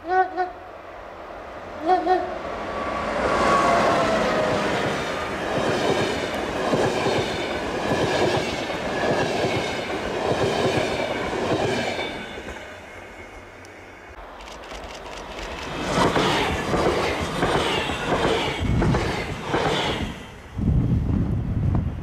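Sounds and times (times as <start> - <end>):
train rolling past: 0.6 - 22.0.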